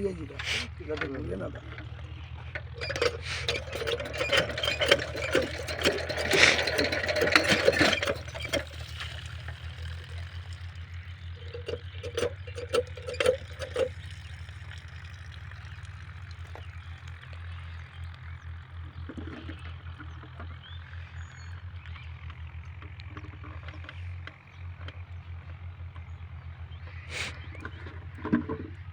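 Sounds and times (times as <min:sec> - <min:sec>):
diesel engine putting: 0:00.0 - 0:28.9.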